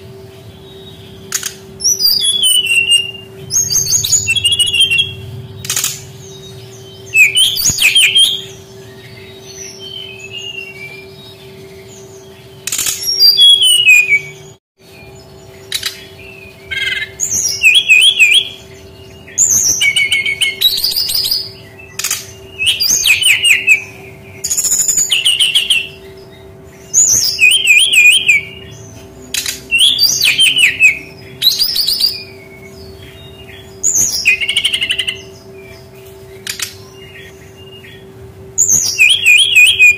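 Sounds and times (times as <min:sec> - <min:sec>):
bird singing warbled phrases: 0:00.0 - 0:39.9
steady low hum: 0:00.0 - 0:39.9.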